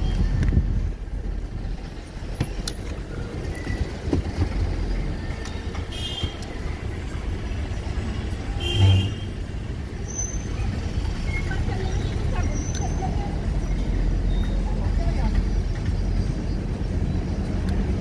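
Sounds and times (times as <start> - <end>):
car road noise: 0.0 - 18.0.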